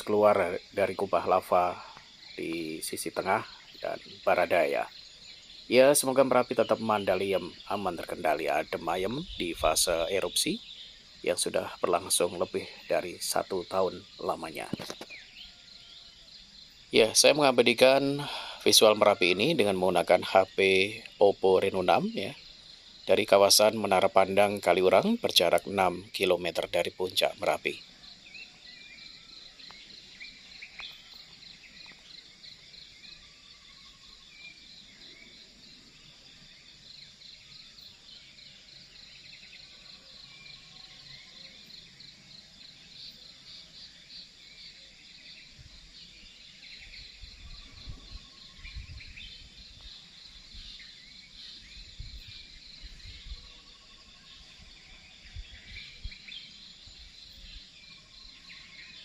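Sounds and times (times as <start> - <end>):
bird chirps: 0.0 - 59.0
crickets trilling: 0.0 - 59.0.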